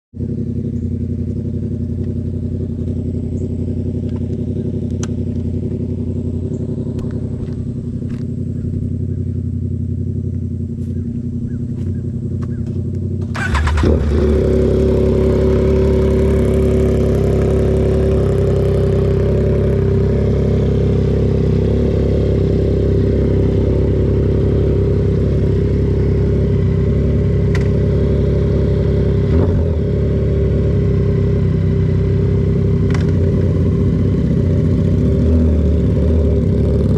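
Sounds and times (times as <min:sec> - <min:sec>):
motorcycle engine idling: 0:00.2 - 0:36.9
motorcycle engine starting: 0:00.2 - 0:36.9.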